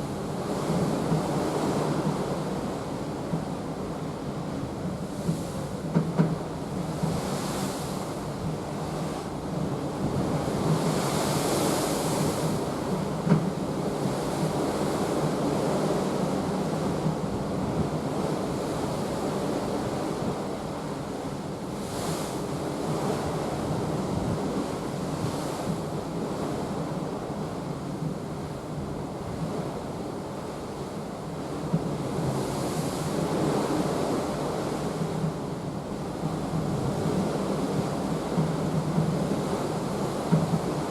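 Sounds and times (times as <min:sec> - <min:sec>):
sea rushing along ship: 0:00.0 - 0:40.9
wind on microphone: 0:00.0 - 0:40.9.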